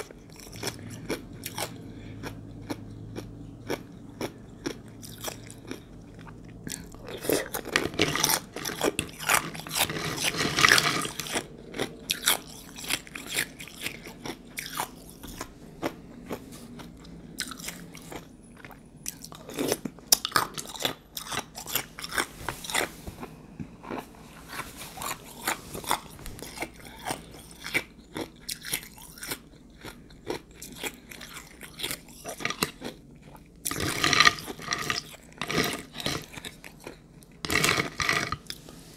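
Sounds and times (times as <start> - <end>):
crunching and chewing ice: 0.0 - 38.8.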